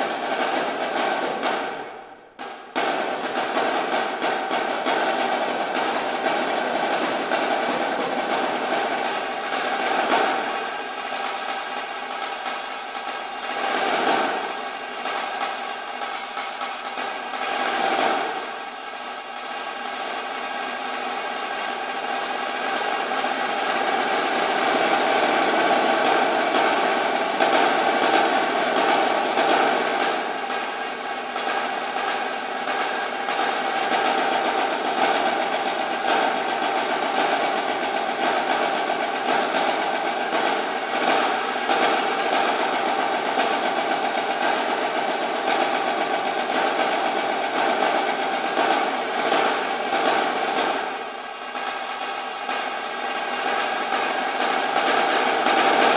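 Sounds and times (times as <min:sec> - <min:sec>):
snare drum rolls: 0:00.0 - 0:55.9.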